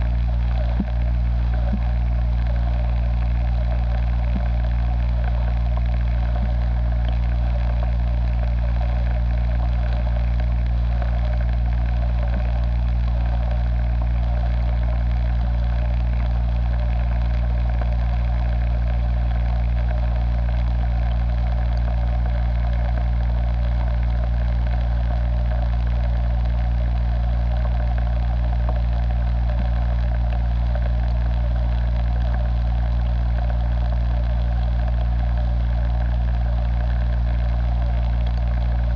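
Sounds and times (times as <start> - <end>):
low mechanical hum with faint buzz: 0.0 - 38.9.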